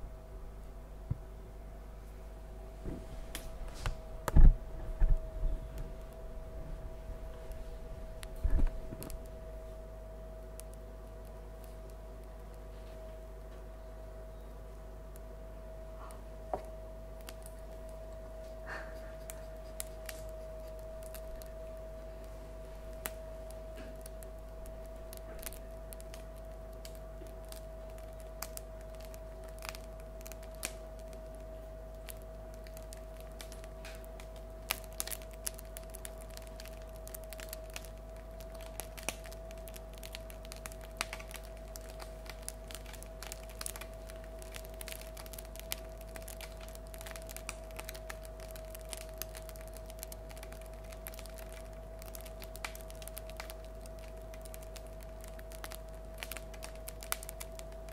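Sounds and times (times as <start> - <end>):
faint steady hum: 0.0 - 57.9
bread crust crackling: 2.0 - 57.9.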